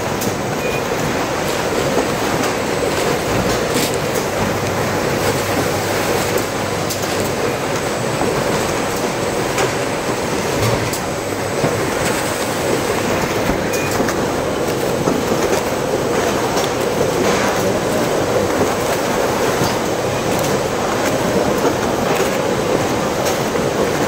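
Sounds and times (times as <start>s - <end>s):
conveyor and machinery hum: 0.0s - 24.0s
machine clicks and clacks: 0.0s - 24.0s.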